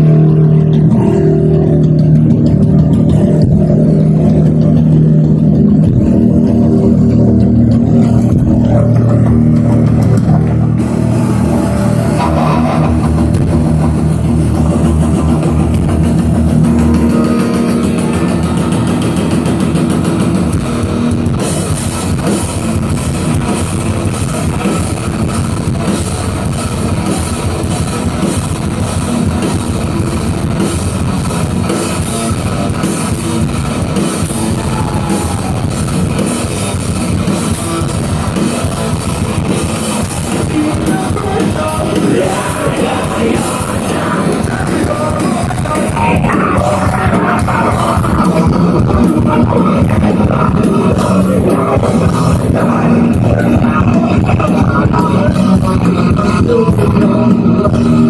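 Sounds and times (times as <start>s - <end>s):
drums and cymbals: 0.0s - 58.0s
electric guitar: 0.0s - 58.0s
rock band playing: 0.0s - 58.0s.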